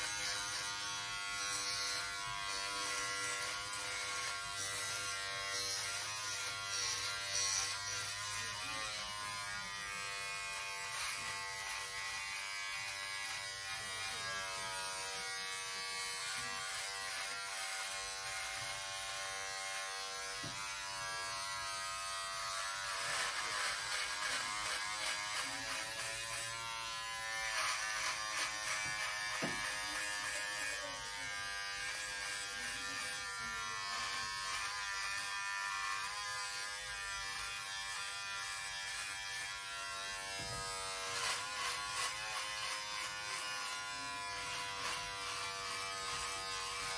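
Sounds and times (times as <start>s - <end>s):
electric shaver buzzing: 0.0s - 46.9s.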